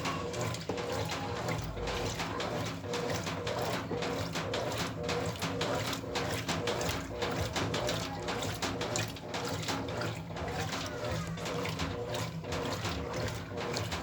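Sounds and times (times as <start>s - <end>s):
low motor hum: 0.0s - 14.0s
water splashing in washing machine: 0.0s - 14.0s.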